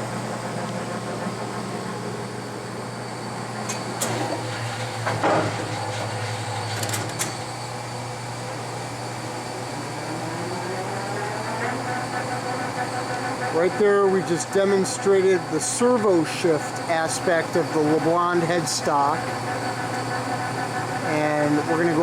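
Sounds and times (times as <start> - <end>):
lathe humming: 0.0 - 22.0
lathe spindle whine: 0.0 - 22.0.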